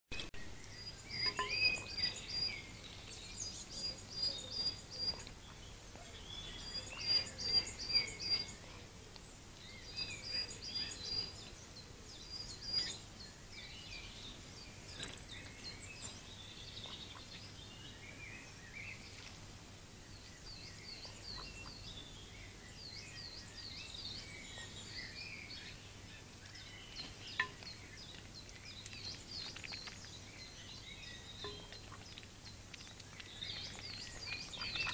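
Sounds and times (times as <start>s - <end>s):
small songbirds singing: 0.1s - 34.9s.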